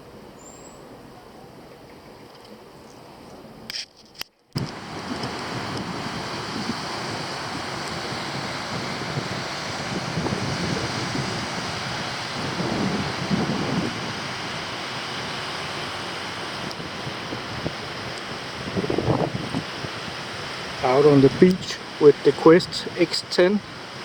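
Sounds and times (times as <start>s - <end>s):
surf washing onto beach: 4.6s - 24.0s
wind noise on microphone: 4.6s - 24.0s.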